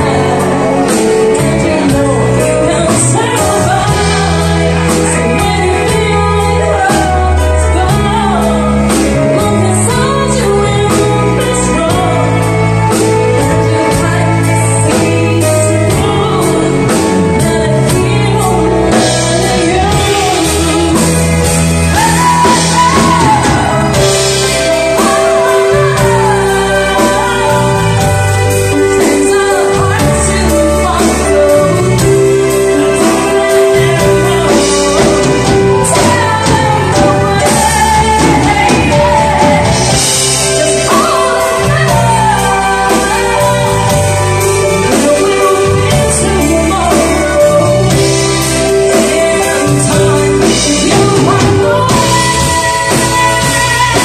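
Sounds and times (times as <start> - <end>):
drum kit beat: 0.0 - 54.0
electric bass: 0.0 - 54.0
woman singing lead: 0.0 - 54.0.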